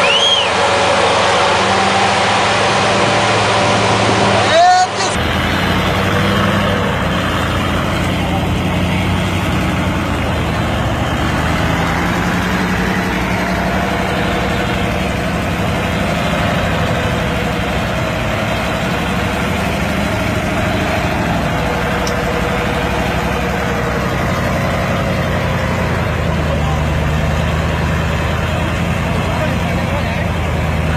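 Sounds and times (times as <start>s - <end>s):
heavy diesel engines straining: 0.0s - 30.9s.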